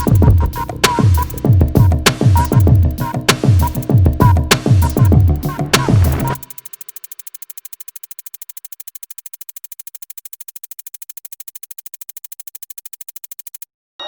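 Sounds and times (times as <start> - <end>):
rapid electronic clicking pulse: 0.0 - 13.7.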